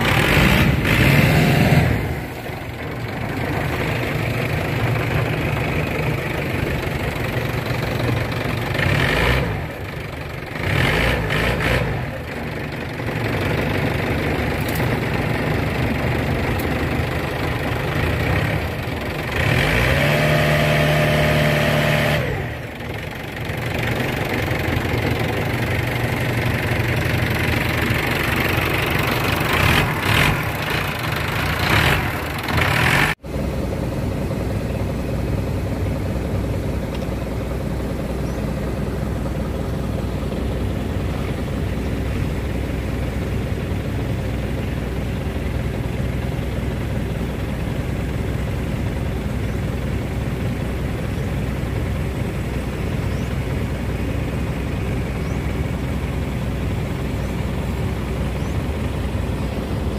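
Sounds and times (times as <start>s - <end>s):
excavator diesel engine revving: 0.0s - 59.9s.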